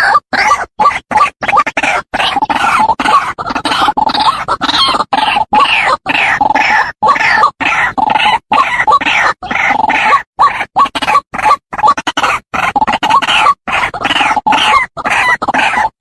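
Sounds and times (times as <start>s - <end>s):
waterhen croaking calls: 0.0s - 16.0s.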